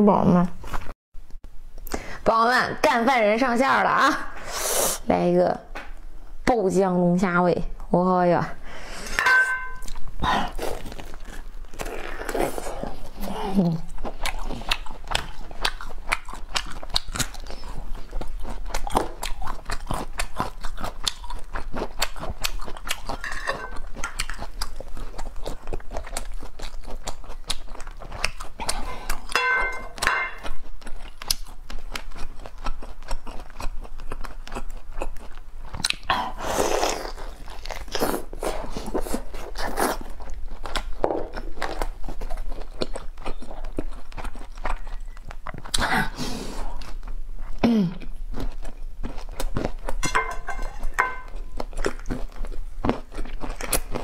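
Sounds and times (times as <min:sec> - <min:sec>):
person chewing: 0:09.0 - 0:54.0.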